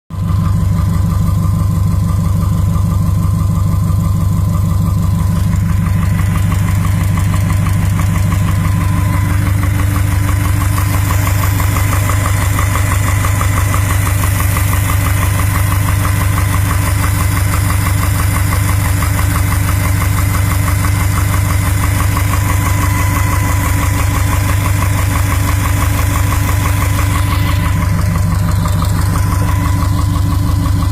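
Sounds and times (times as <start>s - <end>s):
car engine idling: 0.1s - 30.9s
rapid even engine knocking: 0.1s - 30.9s.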